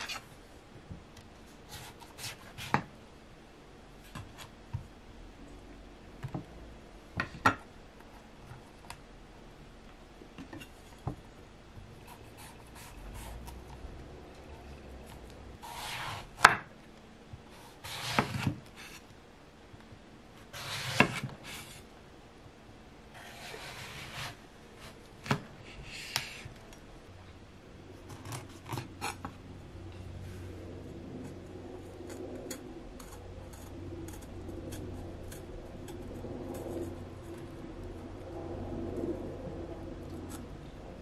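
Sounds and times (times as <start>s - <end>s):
low hum of outside bustle: 0.0s - 41.0s.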